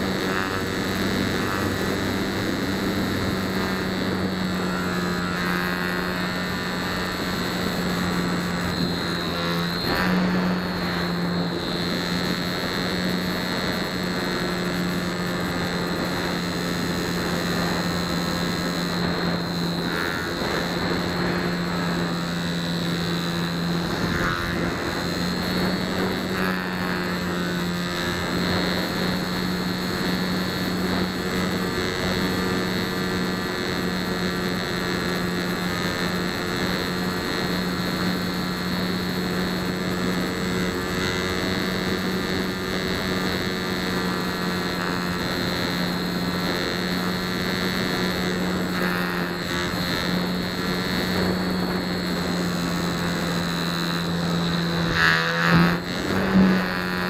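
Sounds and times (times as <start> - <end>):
electric motor and propeller whine: 0.0 - 57.0.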